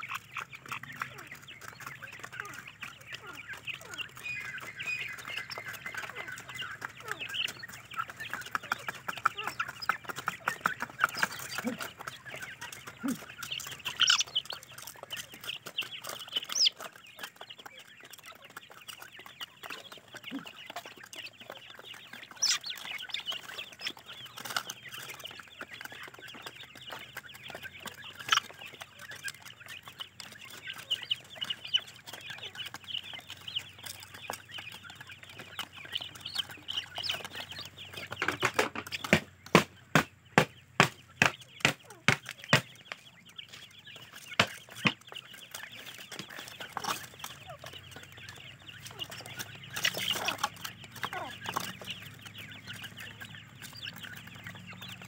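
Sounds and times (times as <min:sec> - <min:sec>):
chicks chirping and peeping: 0:00.0 - 0:55.0.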